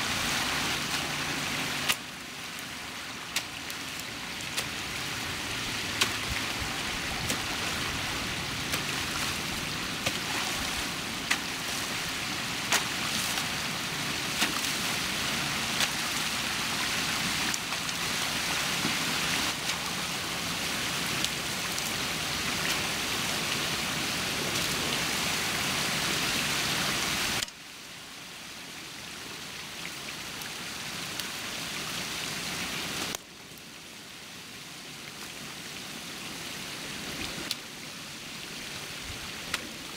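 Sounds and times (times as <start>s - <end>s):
water rushing and trickling: 0.0s - 39.9s.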